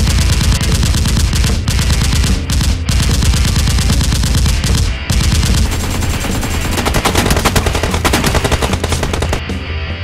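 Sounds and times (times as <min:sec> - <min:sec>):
rapid automatic gunfire: 0:00.0 - 0:09.5
rock music: 0:00.0 - 0:10.0.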